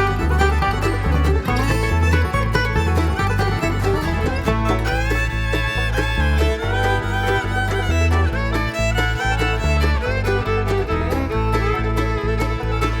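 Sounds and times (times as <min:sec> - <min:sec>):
upbeat bluegrass fiddle tune: 0:00.0 - 0:13.0.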